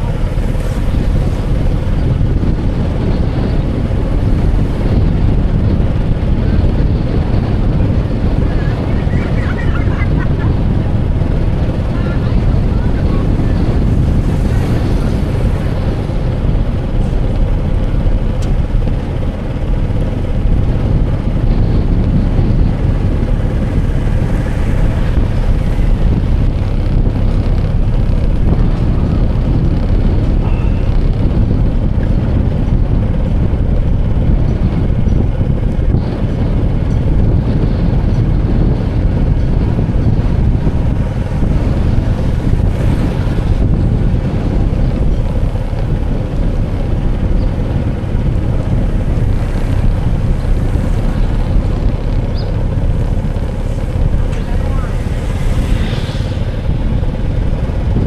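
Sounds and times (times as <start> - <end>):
low rumble: 0.0 - 58.0
wind buffeting microphone: 0.0 - 58.0.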